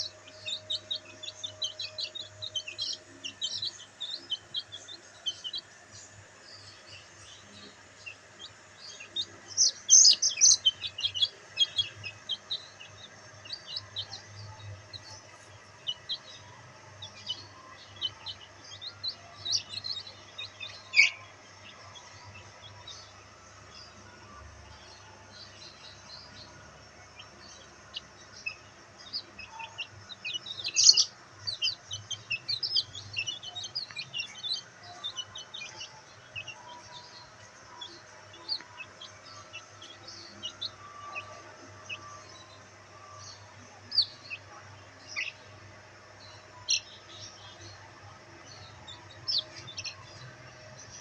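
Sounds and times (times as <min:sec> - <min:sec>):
chicks peeping: 0:00.0 - 0:51.0.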